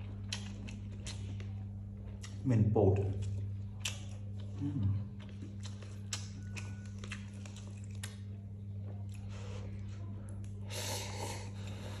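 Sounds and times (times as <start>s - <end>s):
chewing noodles: 0.0s - 2.4s, 3.1s - 12.0s
low hum: 0.0s - 12.0s.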